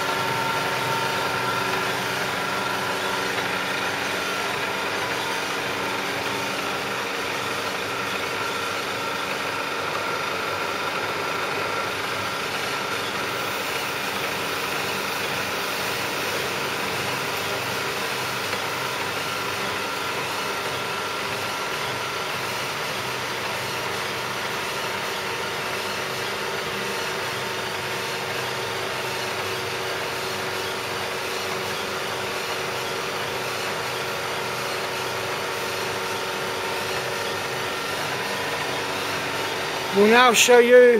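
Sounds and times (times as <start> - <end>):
milling machine hum with whining tones: 0.0 - 40.9.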